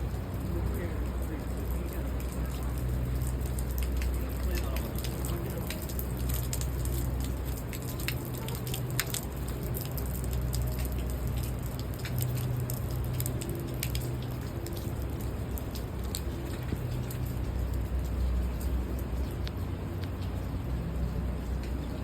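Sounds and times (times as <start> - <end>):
low city rumble: 0.0 - 22.0
rain falling on street: 0.0 - 22.0
raindrops dripping and ticking: 0.0 - 22.0.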